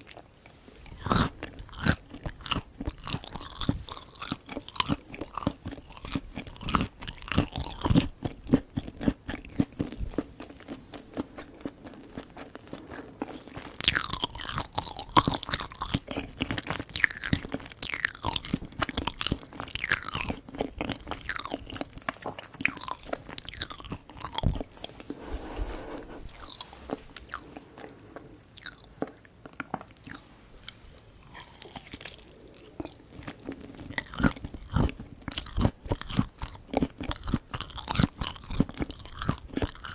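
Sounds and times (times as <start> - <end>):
close chewing with crunches: 0.0 - 39.9.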